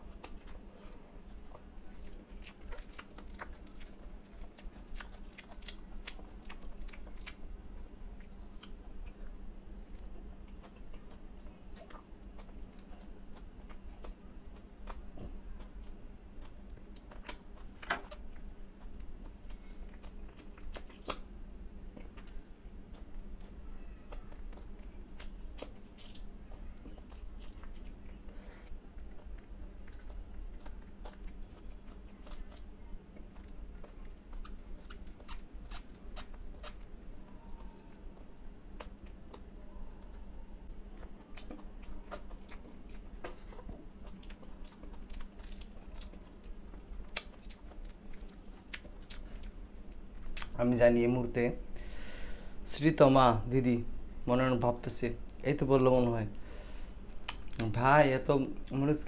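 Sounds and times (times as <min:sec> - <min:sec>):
chewing: 0:00.0 - 0:50.6
low fan hum: 0:00.0 - 0:59.0.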